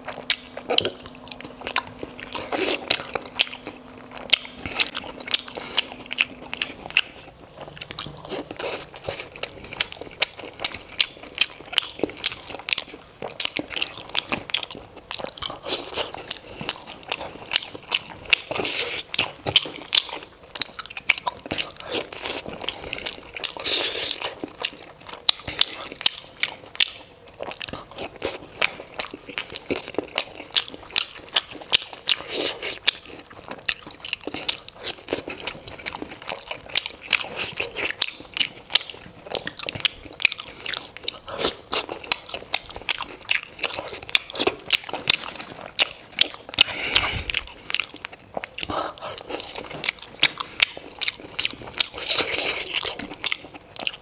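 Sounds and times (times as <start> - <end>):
close chewing and biting: 0.0 - 54.0.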